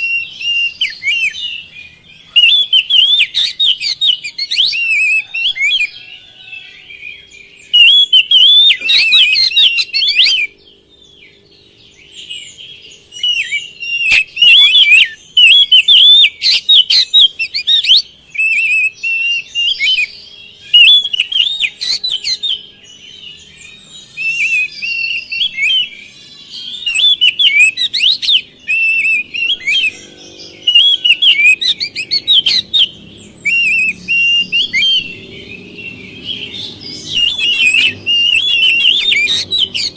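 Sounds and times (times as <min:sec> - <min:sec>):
bird singing whistled phrases: 0:00.0 - 0:11.4, 0:12.0 - 0:39.9.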